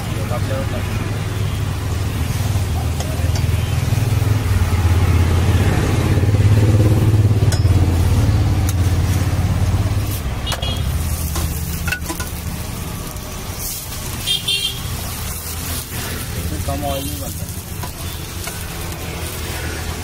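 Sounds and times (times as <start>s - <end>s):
flatbread sizzling on pan: 0.0s - 20.0s.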